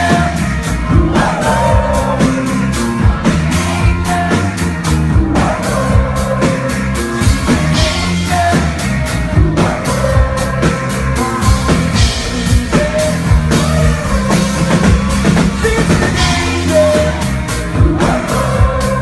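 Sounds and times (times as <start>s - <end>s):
bass notes: 0.0s - 19.0s
drum kit beat: 0.0s - 19.0s
man singing: 0.0s - 19.0s.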